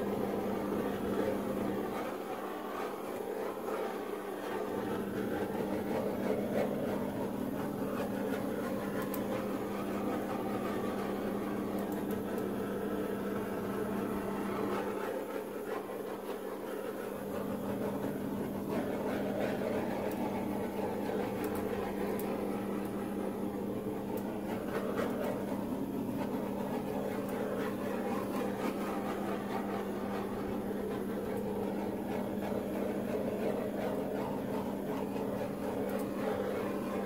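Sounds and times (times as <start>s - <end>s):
heat tool blowing air: 0.0s - 37.0s.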